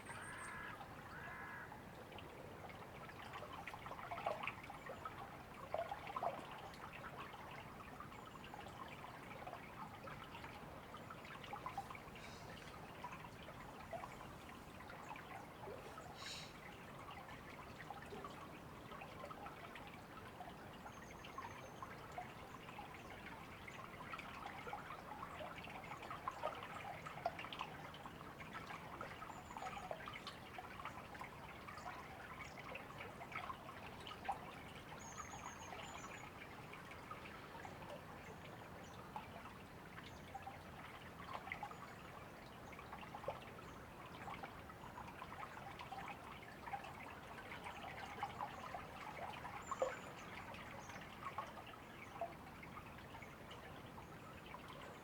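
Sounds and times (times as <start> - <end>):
river water babbling: 0.0 - 55.0.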